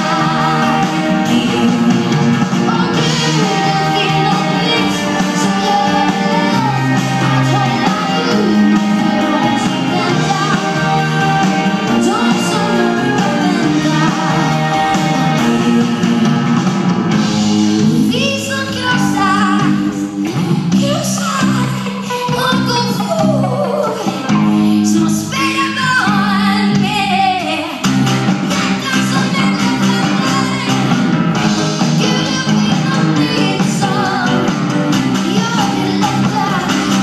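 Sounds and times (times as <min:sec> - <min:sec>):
woman singing: 0:00.0 - 0:16.2, 0:18.0 - 0:20.2, 0:20.8 - 0:27.9, 0:28.5 - 0:31.0, 0:31.9 - 0:37.0
live band playing pop song: 0:00.0 - 0:37.0.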